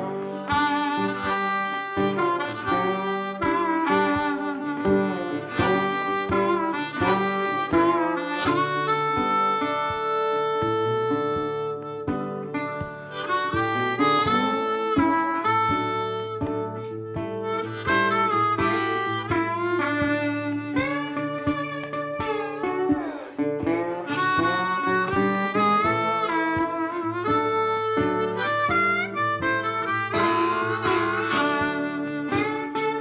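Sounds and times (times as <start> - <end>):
acoustic guitar: 0.0 - 33.0
harmonica playing a tune: 0.0 - 33.0.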